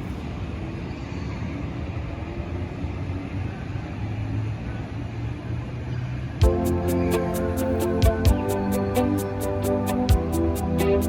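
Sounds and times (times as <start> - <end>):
train carriage rumble and hum: 0.0 - 11.0.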